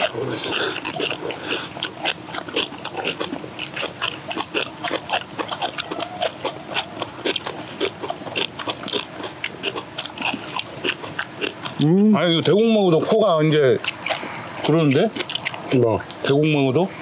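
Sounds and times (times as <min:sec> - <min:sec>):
people chewing with wet smacking: 0:00.0 - 0:16.4.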